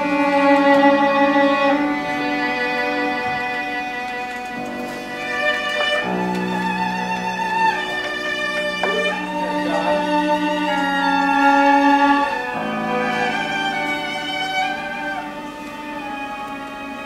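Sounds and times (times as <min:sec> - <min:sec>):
string ensemble holding notes: 0:00.0 - 0:17.0.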